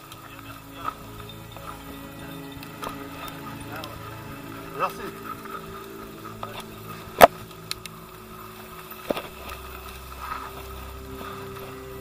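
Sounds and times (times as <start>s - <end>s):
mountain bike rolling on dirt: 0.0s - 12.0s.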